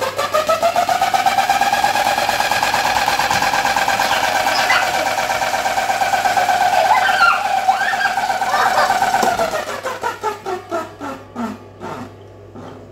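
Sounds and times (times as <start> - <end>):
electric fan whining: 0.0 - 12.9.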